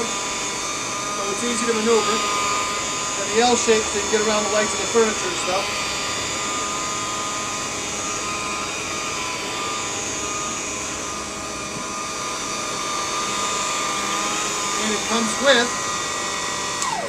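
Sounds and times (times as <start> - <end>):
vacuum cleaner motor whining: 0.0 - 17.0.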